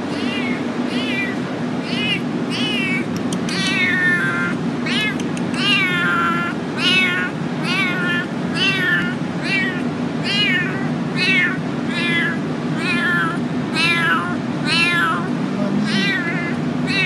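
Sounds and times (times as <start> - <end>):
steady low hum: 0.0 - 17.0
kitten meowing: 0.1 - 17.0.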